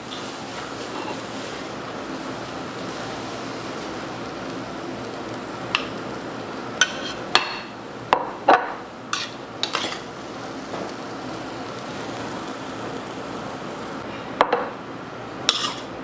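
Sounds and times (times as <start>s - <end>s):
noodles sizzling in a wok: 0.0s - 14.1s, 14.9s - 16.0s.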